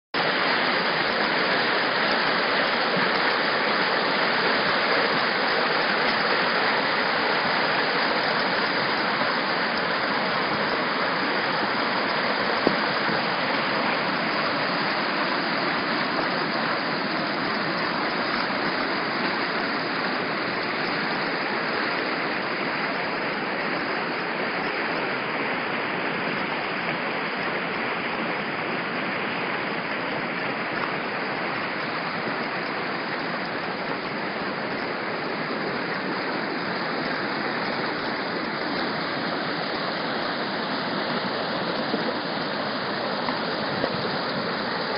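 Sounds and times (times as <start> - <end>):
floodwater rushing: 0.2 - 44.9.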